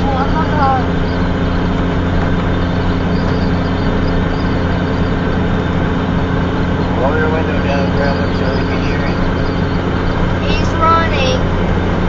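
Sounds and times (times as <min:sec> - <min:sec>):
low even hum: 0:00.0 - 0:12.0
vehicle rumble: 0:00.0 - 0:12.0.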